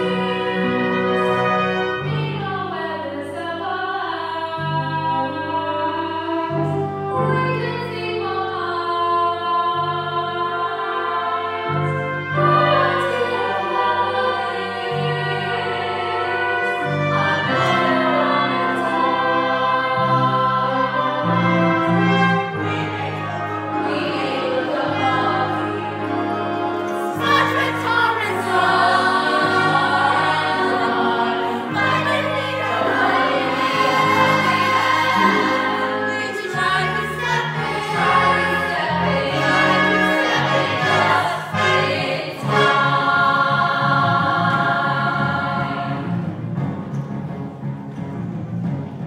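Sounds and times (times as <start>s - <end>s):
pit orchestra playing: 0.0s - 9.0s, 9.8s - 49.0s
singers singing together: 0.0s - 46.3s.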